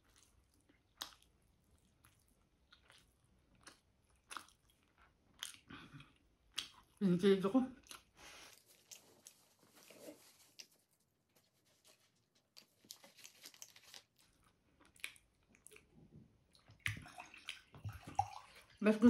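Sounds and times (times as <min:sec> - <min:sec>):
faint chewing and mouth clicks: 0:00.0 - 0:07.0, 0:07.7 - 0:18.8.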